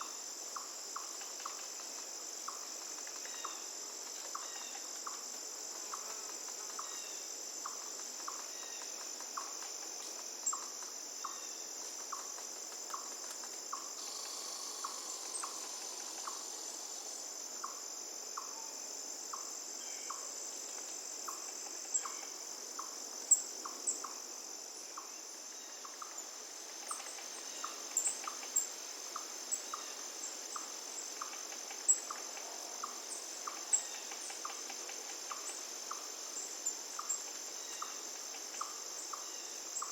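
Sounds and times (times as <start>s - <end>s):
high-pitched insect chorus: 0.0s - 39.9s
sharp insect chirps: 0.0s - 39.9s.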